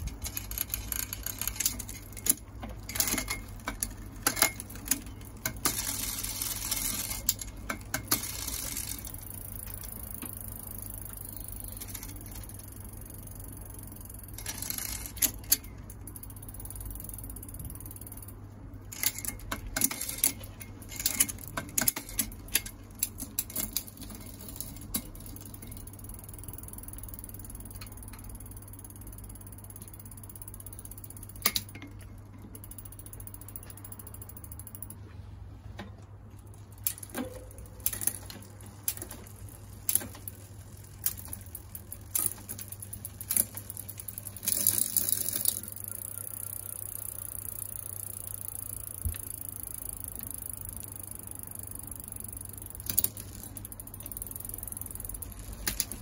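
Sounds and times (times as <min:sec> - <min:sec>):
chain clicking on sprockets: 0:00.0 - 0:35.0, 0:36.4 - 0:56.0
rear hub ratcheting: 0:00.0 - 0:35.0, 0:36.3 - 0:56.0
bicycle chain whirring: 0:00.0 - 0:35.1, 0:36.4 - 0:56.0.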